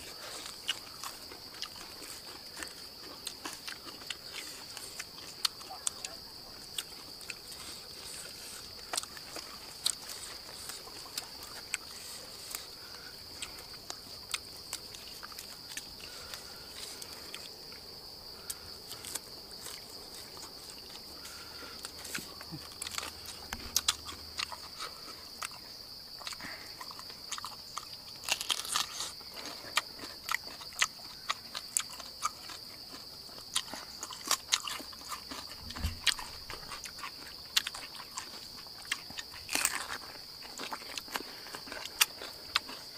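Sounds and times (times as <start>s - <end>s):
insects droning: 0.0s - 42.9s
person chewing crunchy food: 0.0s - 42.9s.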